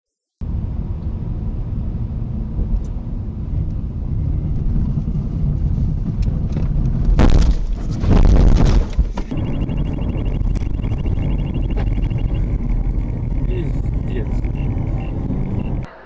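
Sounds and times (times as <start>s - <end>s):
car engine and road rumble: 0.4s - 16.0s.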